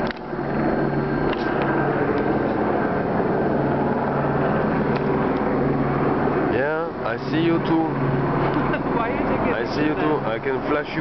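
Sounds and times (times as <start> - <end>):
helicopter rotor and engine drone: 0.0 - 11.0.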